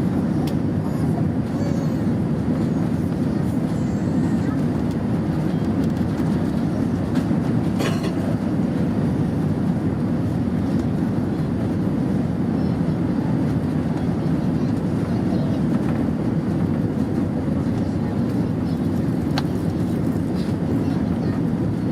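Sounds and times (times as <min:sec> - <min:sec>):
airplane cabin rumble: 0:00.0 - 0:21.9.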